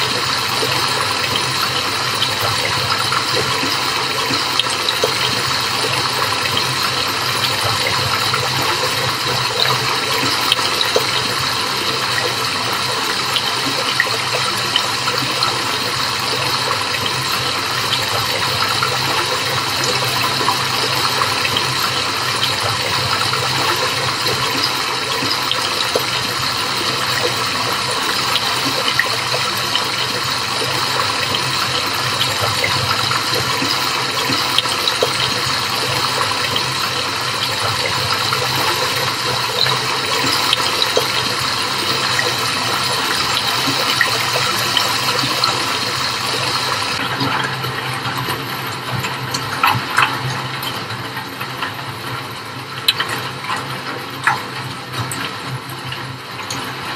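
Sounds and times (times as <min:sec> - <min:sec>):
water gushing and bubbling: 0:00.0 - 0:56.9.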